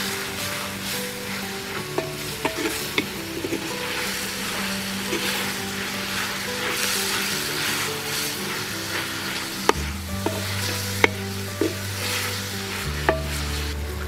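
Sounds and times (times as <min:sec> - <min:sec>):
background music: 0:00.0 - 0:14.0
vegetables sizzling in oil: 0:00.0 - 0:14.0.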